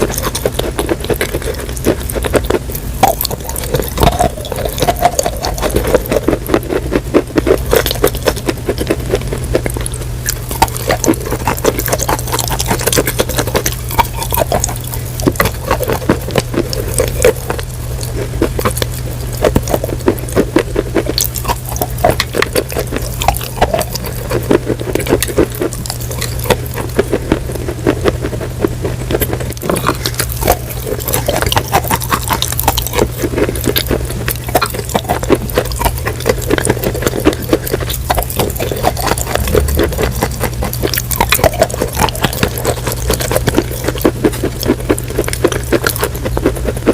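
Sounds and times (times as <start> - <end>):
crunching and chewing: 0.0 - 46.9
steady low hum: 0.0 - 46.9.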